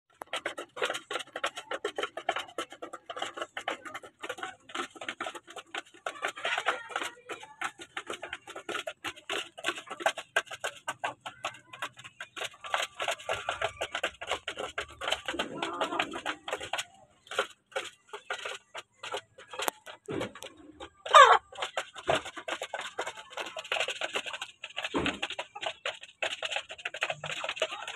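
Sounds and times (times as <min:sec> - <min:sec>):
chickens pecking on trough: 0:00.1 - 0:27.9.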